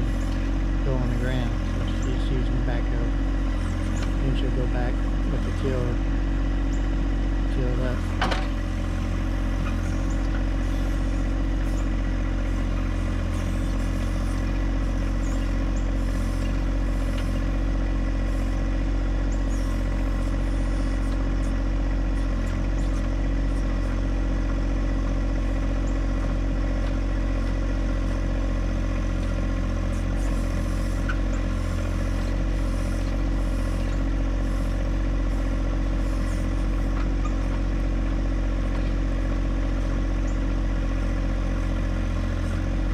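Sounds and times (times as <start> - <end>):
backhoe digging ground: 0.0 - 42.9
diesel tractor engine running: 0.0 - 42.9.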